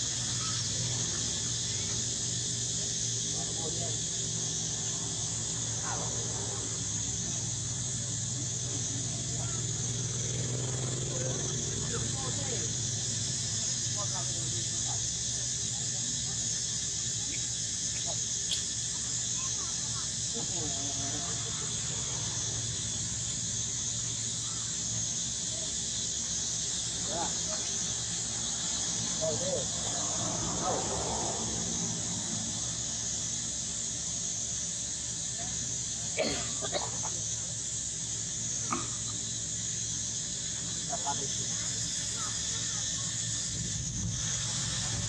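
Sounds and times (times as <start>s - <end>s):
insect chorus drone: 0.0s - 45.0s
steady high hiss: 0.0s - 45.0s.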